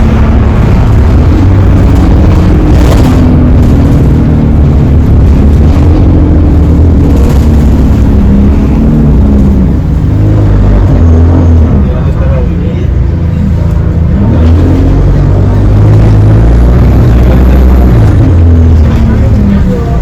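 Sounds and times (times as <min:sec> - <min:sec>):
bus engine low rumble: 0:00.0 - 0:20.0
wavering axle whine: 0:00.0 - 0:20.0.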